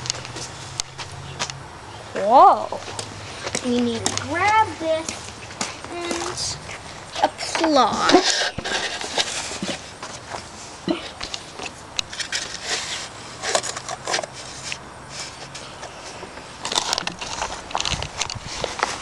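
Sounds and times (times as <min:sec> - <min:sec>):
hands scraping and rustling: 0:02.2 - 0:19.0.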